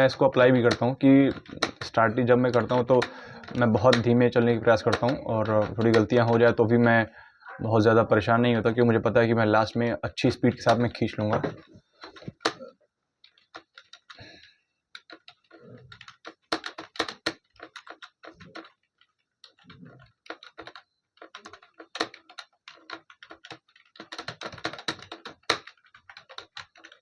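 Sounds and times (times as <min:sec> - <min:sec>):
fast typing on keyboard: 0:00.0 - 0:06.8, 0:10.5 - 0:27.0.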